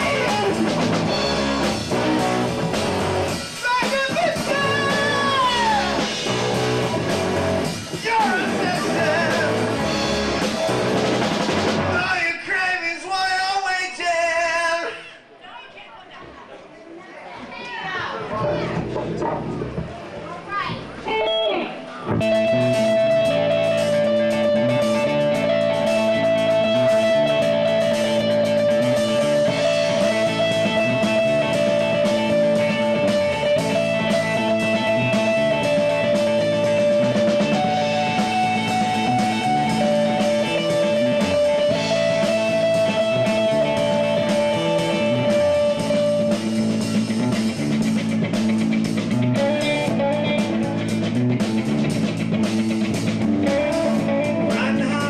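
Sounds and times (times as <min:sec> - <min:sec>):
rock band playing instrumental: 0:00.0 - 0:12.2, 0:18.3 - 0:55.0.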